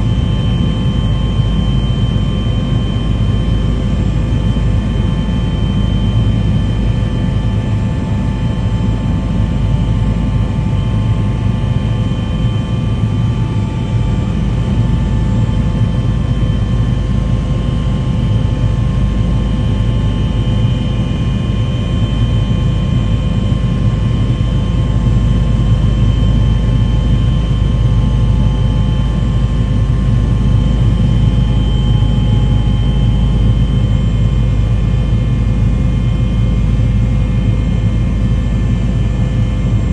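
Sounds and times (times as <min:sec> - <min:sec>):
low engine drone with tones: 0:00.0 - 0:39.9.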